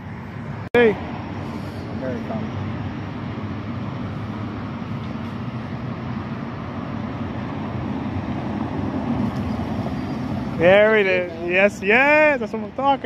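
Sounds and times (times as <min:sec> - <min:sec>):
road noise: 0:00.0 - 0:13.0
traffic engine hum: 0:00.0 - 0:13.0.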